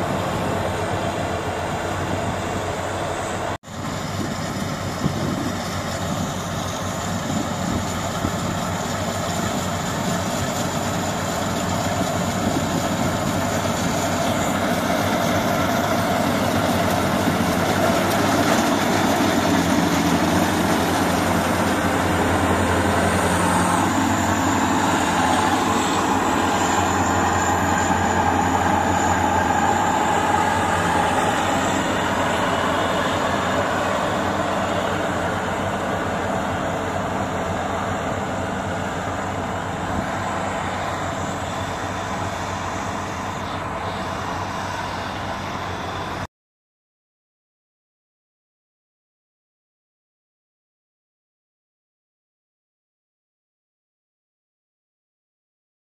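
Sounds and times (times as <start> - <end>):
combine harvester droning: 0.0 - 46.3.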